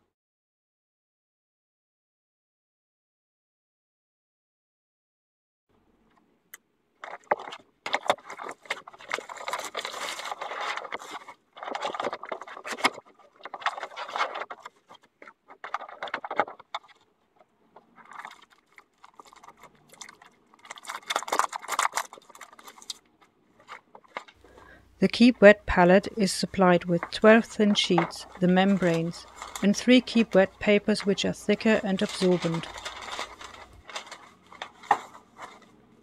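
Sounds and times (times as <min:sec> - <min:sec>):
plastic and paper rustling: 0:07.0 - 0:36.0.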